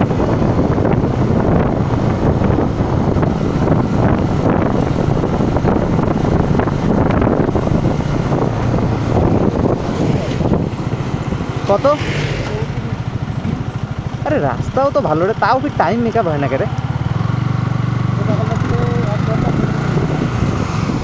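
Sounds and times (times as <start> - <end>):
motorcycle engine running: 0.0 - 21.0
wind rush on microphone: 0.0 - 21.0.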